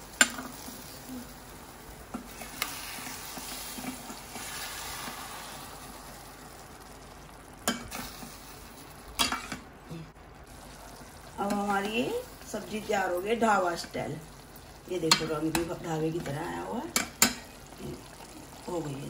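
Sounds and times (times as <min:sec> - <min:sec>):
gravy hissing in a pan: 0:00.0 - 0:19.0.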